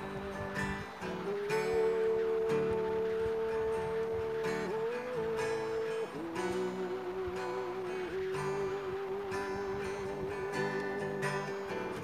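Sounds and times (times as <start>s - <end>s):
acoustic guitar strumming: 0.0s - 12.0s
man singing a long note: 1.2s - 11.1s.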